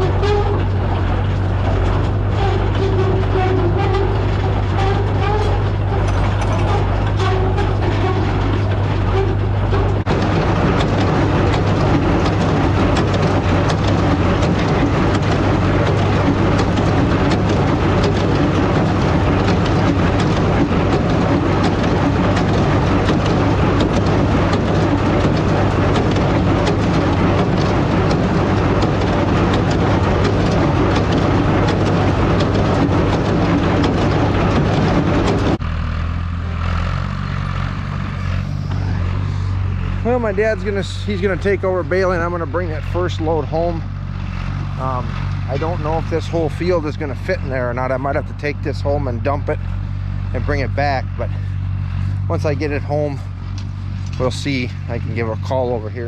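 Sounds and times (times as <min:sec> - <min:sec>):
baler mechanical clatter: 0:00.0 - 0:56.0
tractor engine hum: 0:00.0 - 0:56.0.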